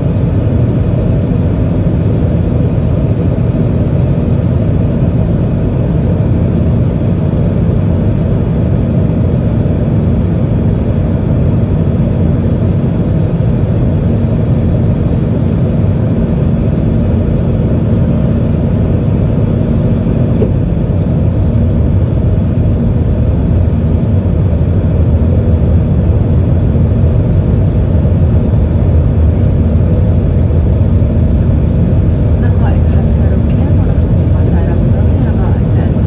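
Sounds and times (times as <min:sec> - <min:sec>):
faint steady hum: 0:00.0 - 0:36.0
jet engine and air rumble: 0:00.0 - 0:36.0.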